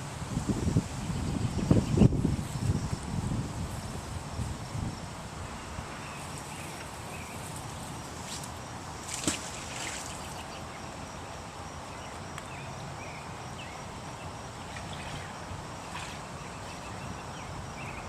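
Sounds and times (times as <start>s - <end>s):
riverside ambience: 0.0s - 18.0s.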